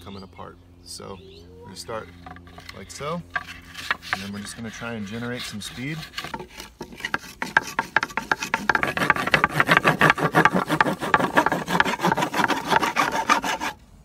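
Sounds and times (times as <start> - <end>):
wooden board rasping on concrete: 2.2 - 13.8.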